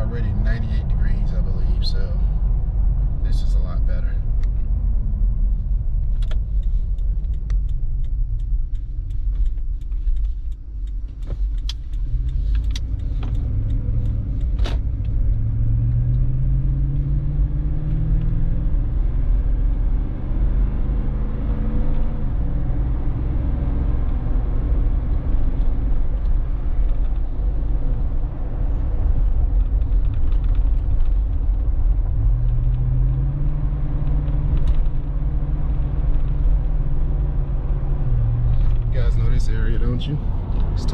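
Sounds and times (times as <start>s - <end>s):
car engine accelerating: 0.0s - 40.9s
low driving rumble: 0.0s - 40.9s.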